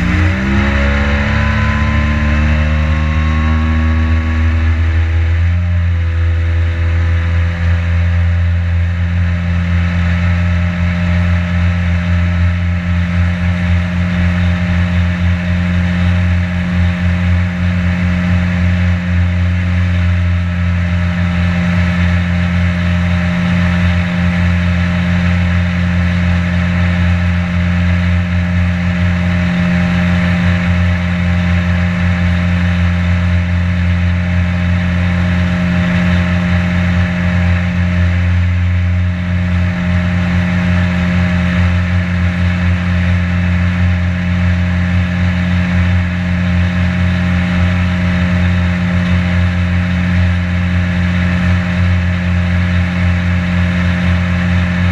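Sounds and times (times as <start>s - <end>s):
boat motor running: 0.0s - 54.9s.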